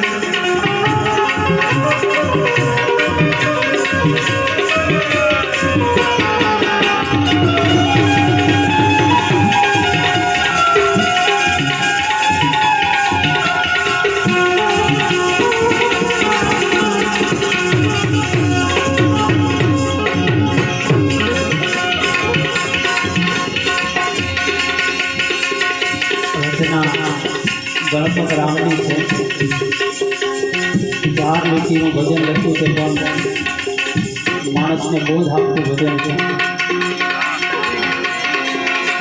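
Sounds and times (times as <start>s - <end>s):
hand drum rhythm: 0.0s - 39.0s
harmonium melody: 0.0s - 39.0s.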